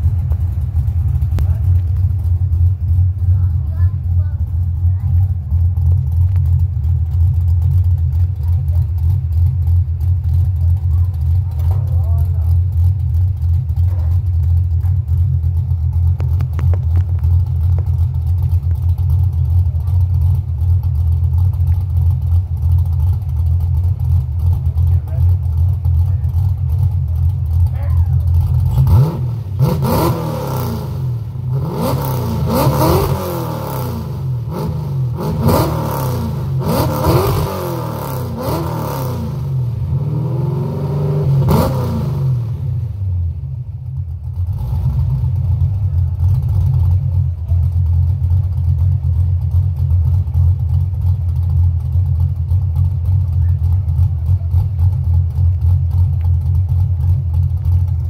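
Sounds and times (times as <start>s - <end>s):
car engine revving: 0.0s - 58.0s
lopey engine idle: 0.0s - 58.0s.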